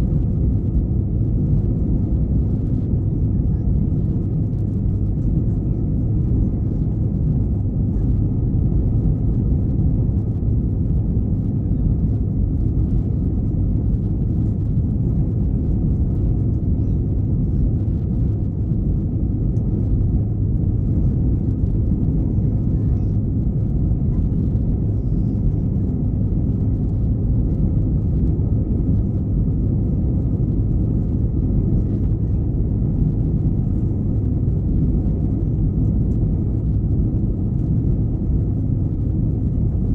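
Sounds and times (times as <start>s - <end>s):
faint steady whine: 0.0s - 39.9s
jet engine rumble in cabin: 0.0s - 39.9s.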